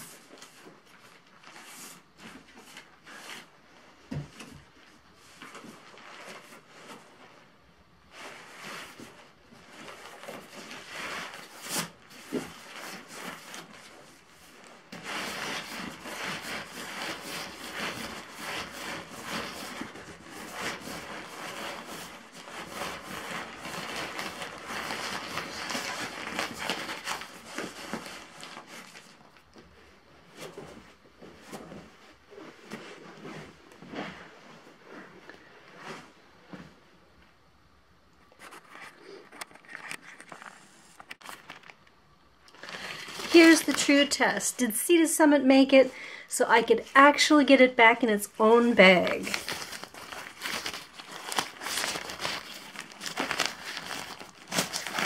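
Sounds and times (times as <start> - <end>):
fabric rustling and crinkling: 0.0 - 44.5, 48.4 - 55.0.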